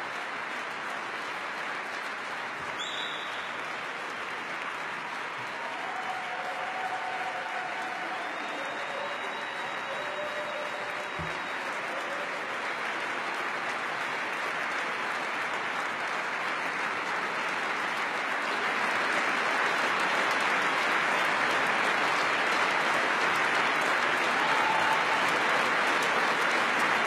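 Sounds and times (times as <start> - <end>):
audience applause: 0.0 - 27.0.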